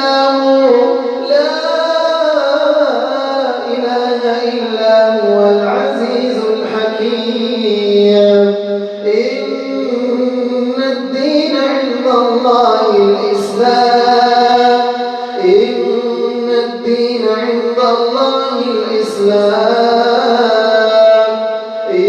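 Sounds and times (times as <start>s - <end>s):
man chanting melodically: 0.0s - 22.0s.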